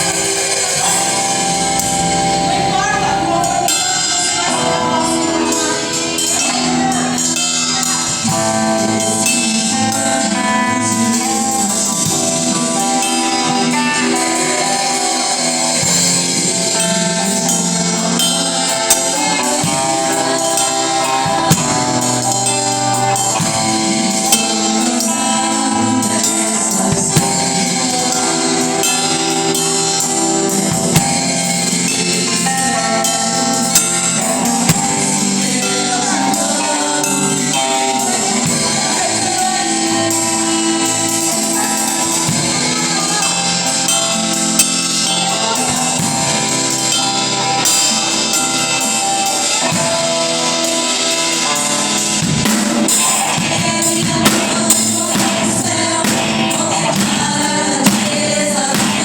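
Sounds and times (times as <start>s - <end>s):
person singing: 0.0s - 59.0s
strummed guitar: 0.0s - 59.0s.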